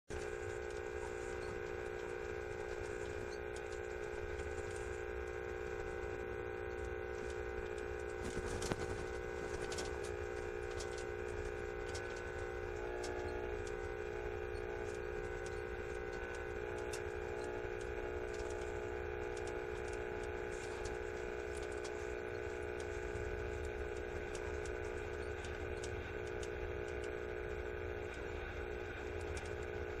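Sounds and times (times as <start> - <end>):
radio buzzing hum: 0.1 - 30.0.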